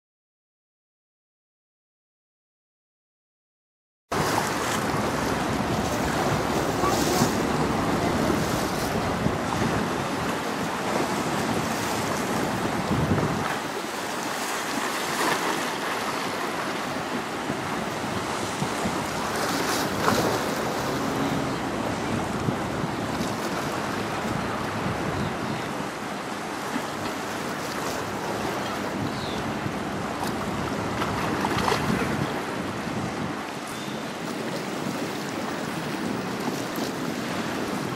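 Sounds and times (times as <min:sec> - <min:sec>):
waves splashing: 0:04.1 - 0:37.9
wind buffeting microphone: 0:04.2 - 0:37.9.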